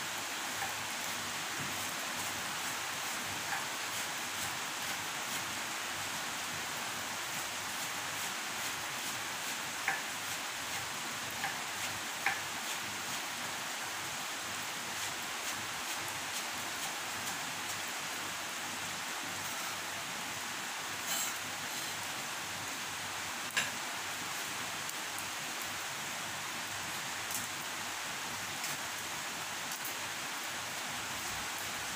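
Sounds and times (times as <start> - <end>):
rain hissing: 0.0 - 31.9.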